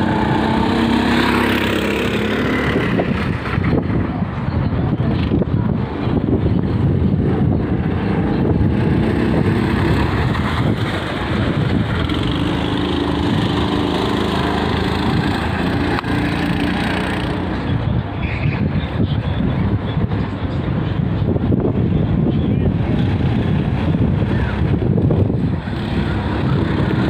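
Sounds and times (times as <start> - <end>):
go-kart engine running: 0.0 - 19.0, 22.6 - 27.0
wind rumble on microphone: 0.0 - 27.0.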